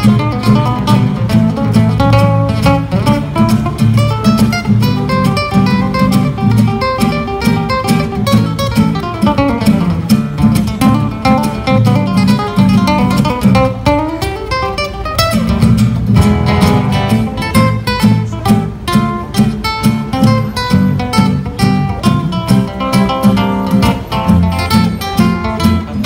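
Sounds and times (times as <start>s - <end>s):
acoustic guitars playing: 0.0s - 26.0s.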